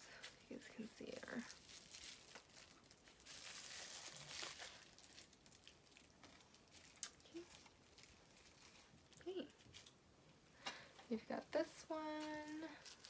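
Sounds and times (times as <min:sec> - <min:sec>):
packaging crinkling: 0:00.1 - 0:10.0, 0:12.0 - 0:13.0.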